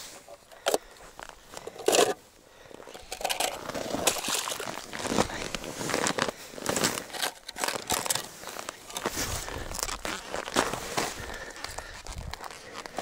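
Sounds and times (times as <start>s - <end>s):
snow crunching and scraping: 0.0s - 2.3s, 3.6s - 13.0s.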